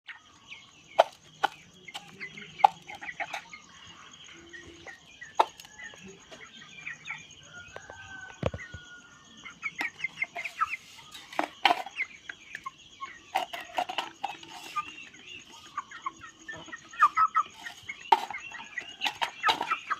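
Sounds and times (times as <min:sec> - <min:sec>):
chickens clucking: 0:00.1 - 0:19.9.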